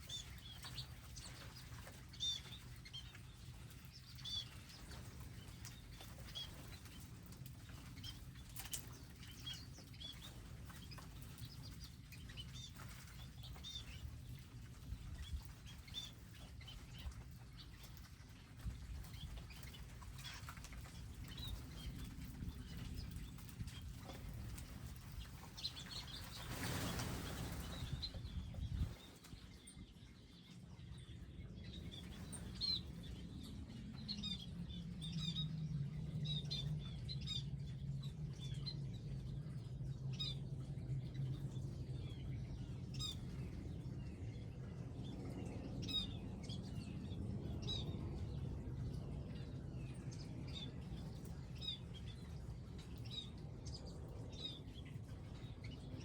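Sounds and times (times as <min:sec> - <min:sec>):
low steady hum: 0:00.0 - 0:56.0
small birds chirping: 0:00.0 - 0:56.0.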